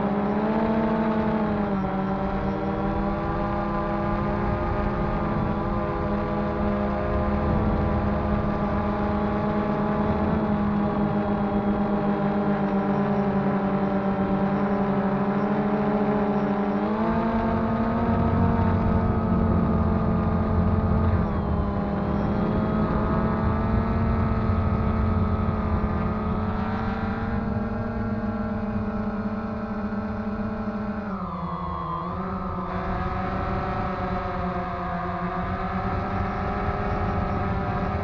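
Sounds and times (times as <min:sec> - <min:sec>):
drone propellers whining: 0:00.0 - 0:38.0.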